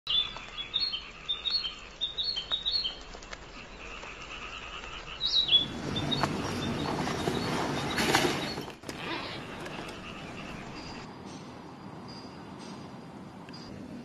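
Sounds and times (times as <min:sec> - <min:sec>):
small birds chirping: 0:00.1 - 0:13.7.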